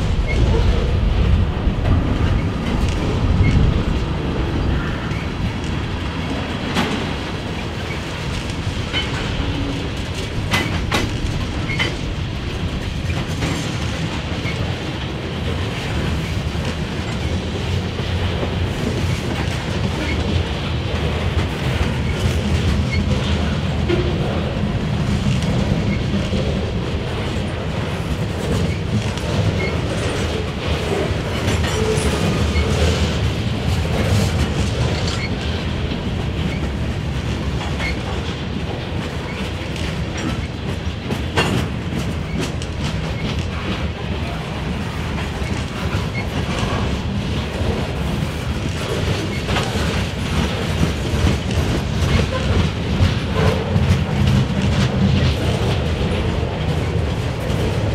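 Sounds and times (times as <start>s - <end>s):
train wheels rumbling on rail: 0.0s - 57.9s
wheels clicking over rail joints: 0.0s - 57.9s.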